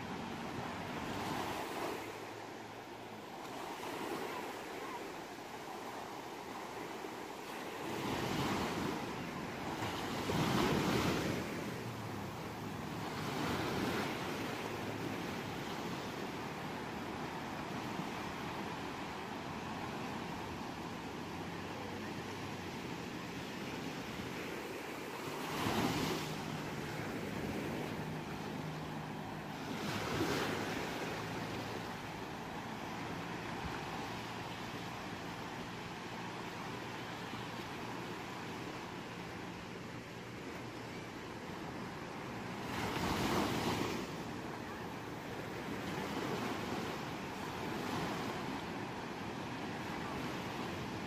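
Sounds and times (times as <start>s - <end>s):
ocean waves on shore: 0.0s - 51.0s.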